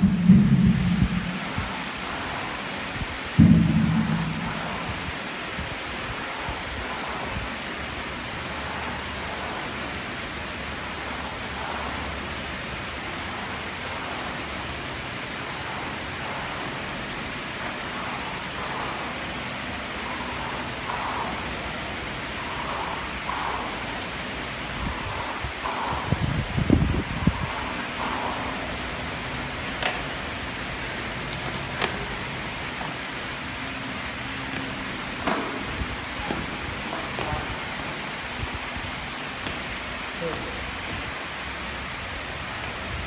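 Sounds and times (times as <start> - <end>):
rowing machine fan whooshing: 0.0 - 43.0.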